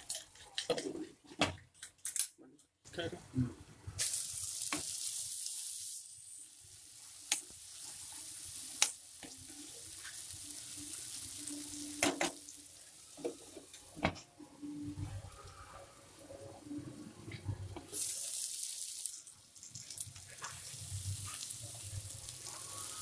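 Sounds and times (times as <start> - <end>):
gravy sizzling in a frying pan: 3.8 - 23.0.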